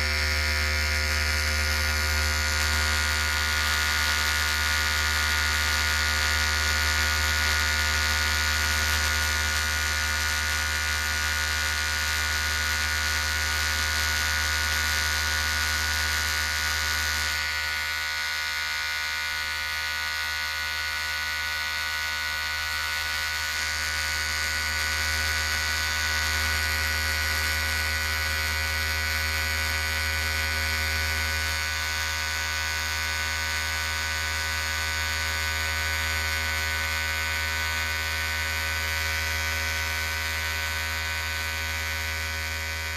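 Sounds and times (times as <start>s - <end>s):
electric hair clipper buzzing: 0.0s - 42.9s.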